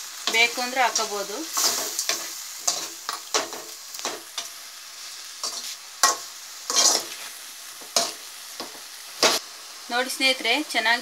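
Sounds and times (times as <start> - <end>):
food sizzling: 0.0 - 11.0
metal spatula scraping a pan: 0.3 - 9.4.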